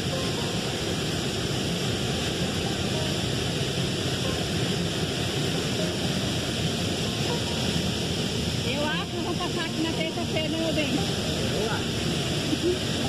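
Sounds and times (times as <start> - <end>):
waterfall and rapids rushing: 0.0 - 13.0.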